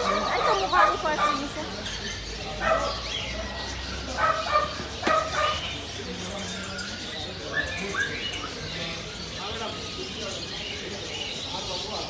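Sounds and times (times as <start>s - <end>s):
puppies yipping and barking: 0.0s - 9.9s.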